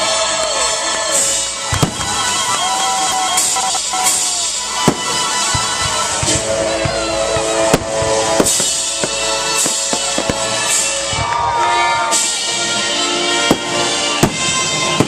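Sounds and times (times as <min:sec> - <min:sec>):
fireworks bangs: 0:00.0 - 0:15.0
music playing: 0:00.0 - 0:15.0.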